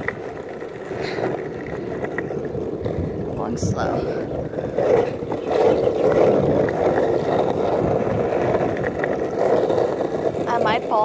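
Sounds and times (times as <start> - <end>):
skateboard wheels rolling on asphalt: 0.0 - 11.0.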